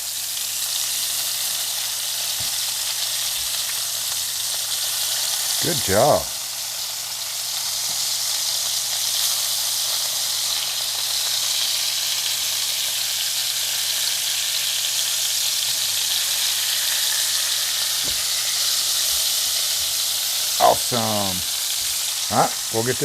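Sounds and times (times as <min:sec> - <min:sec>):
meat patties sizzling in pan: 0:00.0 - 0:23.0.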